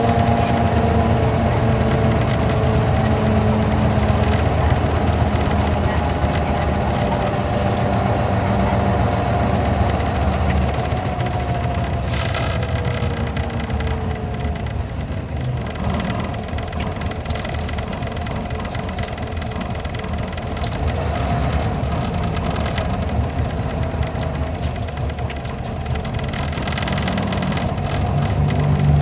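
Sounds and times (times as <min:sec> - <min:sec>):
diesel engine running: 0:00.0 - 0:29.0
road noise: 0:00.0 - 0:29.0.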